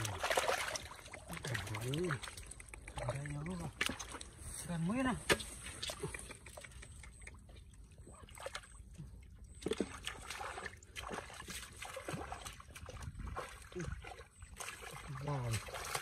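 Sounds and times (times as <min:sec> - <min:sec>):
hands sloshing muddy water: 0:00.0 - 0:16.0.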